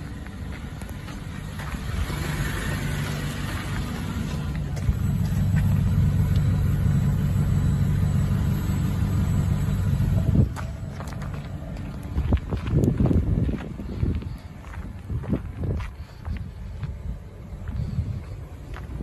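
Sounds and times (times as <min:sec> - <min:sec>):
van engine idling: 0:00.0 - 0:19.0.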